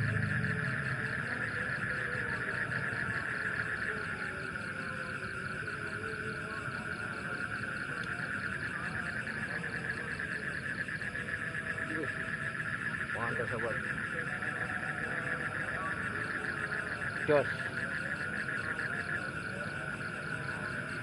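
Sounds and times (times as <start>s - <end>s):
frogs and insects trilling: 0.0s - 21.0s.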